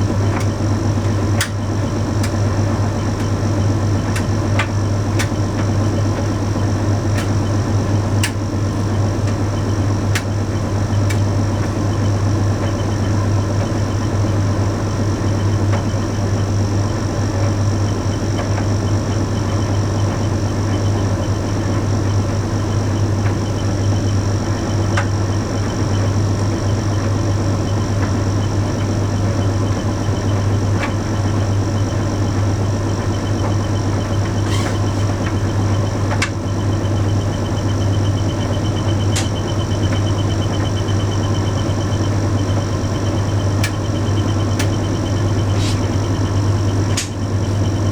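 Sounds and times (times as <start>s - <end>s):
tumble dryer humming: 0.0s - 47.9s.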